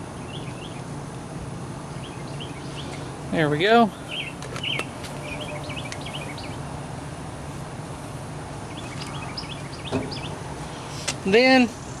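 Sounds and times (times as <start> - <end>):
small birds chirping: 0.0 - 1.0, 1.8 - 11.7
low outdoor hum: 0.0 - 12.0.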